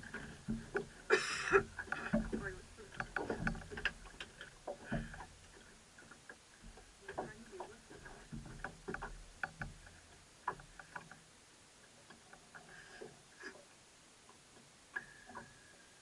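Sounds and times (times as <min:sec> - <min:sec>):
gear knocking and clicking in boat: 0:00.0 - 0:16.0.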